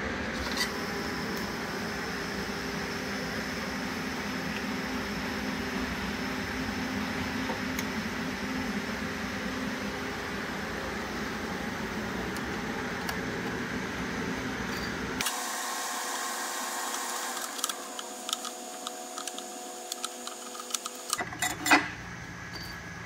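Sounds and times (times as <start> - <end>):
steady shop hum: 0.0 - 23.0.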